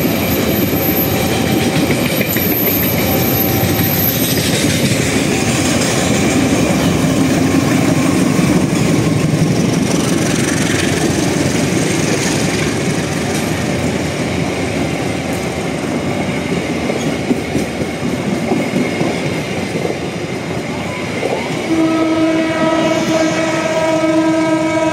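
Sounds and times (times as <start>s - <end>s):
train wheels rattling over rails: 0.0s - 24.9s.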